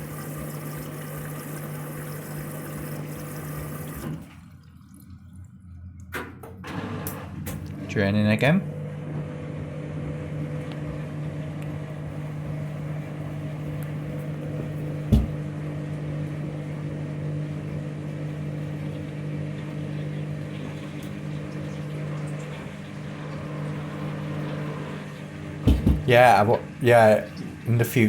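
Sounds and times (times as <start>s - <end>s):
drain pump humming: 0.0s - 28.0s.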